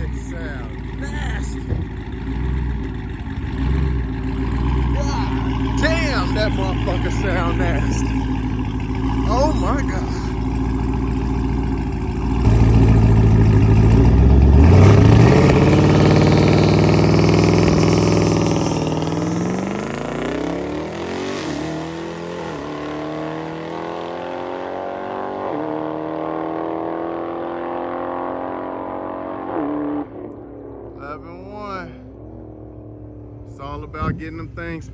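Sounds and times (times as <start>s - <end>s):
drag car engine accelerating: 0.0s - 34.9s.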